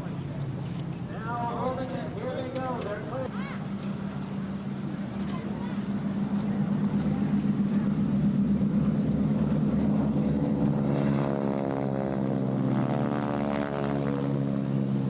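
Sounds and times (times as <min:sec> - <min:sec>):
propeller aircraft engine: 0:00.0 - 0:15.0
higher engine note wavering: 0:01.0 - 0:15.0.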